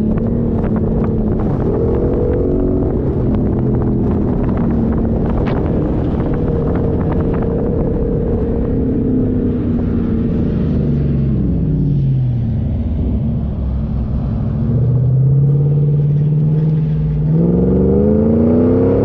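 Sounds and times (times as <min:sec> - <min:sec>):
heavy low rumble: 0:00.0 - 0:19.0
off-road vehicle engine: 0:00.0 - 0:19.0.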